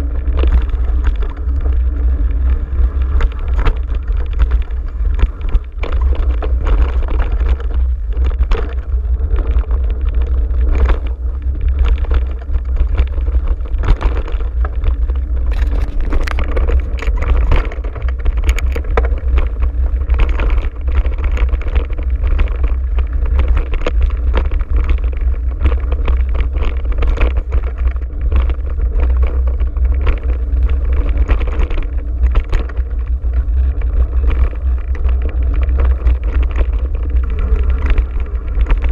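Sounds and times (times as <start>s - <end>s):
bike rattling and knocking: 0.0s - 38.9s
wind on microphone: 0.0s - 38.9s.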